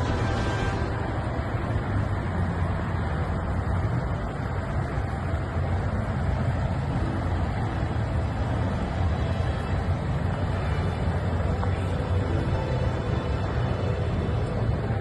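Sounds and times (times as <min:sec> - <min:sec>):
distant road traffic rumble: 0:00.0 - 0:15.0.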